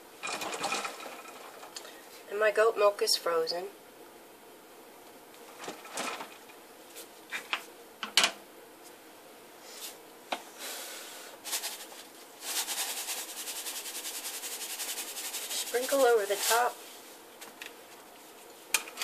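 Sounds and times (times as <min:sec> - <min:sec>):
granules sprinkled rattling hiss: 0:00.0 - 0:19.0.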